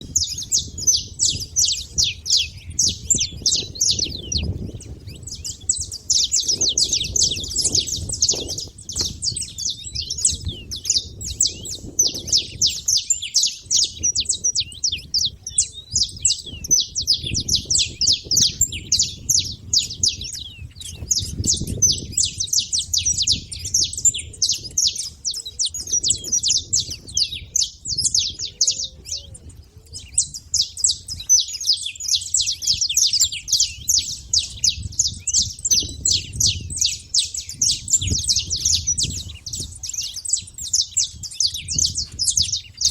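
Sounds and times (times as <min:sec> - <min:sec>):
finches chirping: 0:00.0 - 0:42.9.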